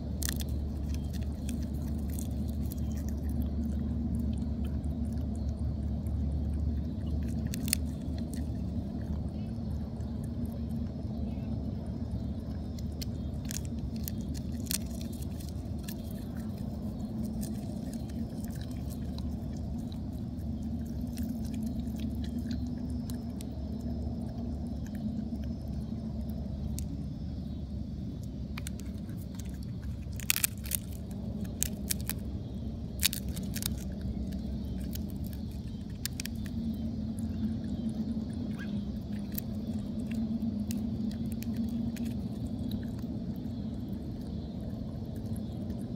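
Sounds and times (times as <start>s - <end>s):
animal crunching peanuts: 0.0s - 45.9s
steady low rumble: 0.0s - 45.9s.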